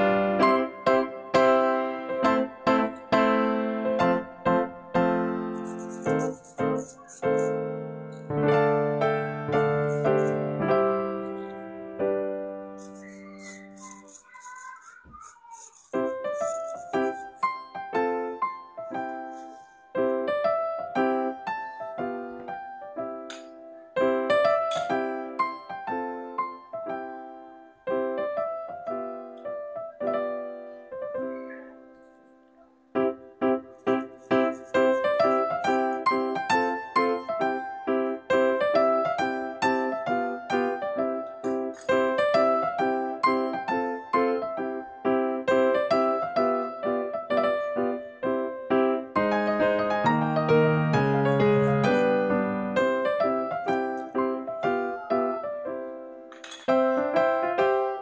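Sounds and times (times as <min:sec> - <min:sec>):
piano-like keyboard chords: 0:00.0 - 0:58.0.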